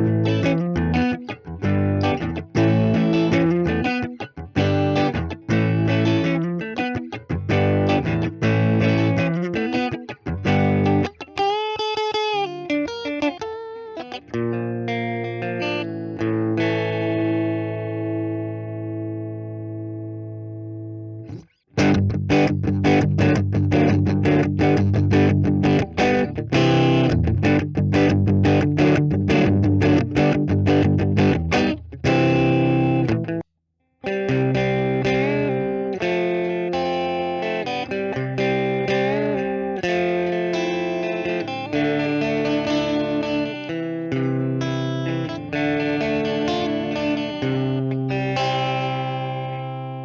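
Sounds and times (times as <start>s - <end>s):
electric guitar chord ringing: 0.0s - 33.4s, 34.1s - 50.0s
fast rhythmic guitar strumming: 0.0s - 33.4s, 34.0s - 50.0s.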